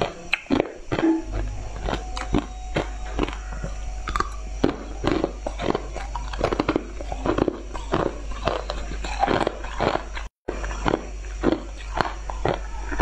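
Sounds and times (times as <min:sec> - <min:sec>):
ice being chewed: 0:00.0 - 0:13.0.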